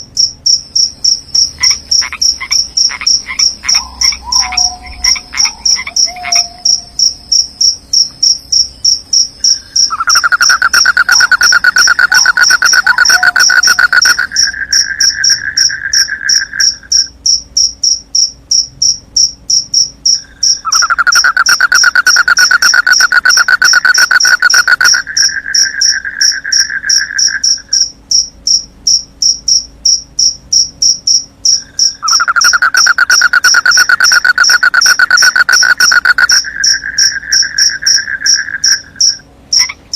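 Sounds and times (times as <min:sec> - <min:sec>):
crickets chirping: 0:00.0 - 0:39.9
faint frog croaks: 0:00.0 - 0:39.9
insect trill: 0:00.0 - 0:39.9.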